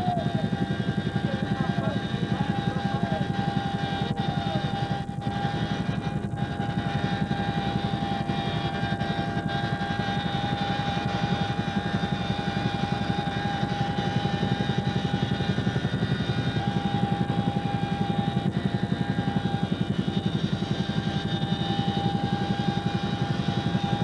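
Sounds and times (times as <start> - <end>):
helicopter rotor beat: 0.0 - 24.0
high whine: 0.0 - 24.0.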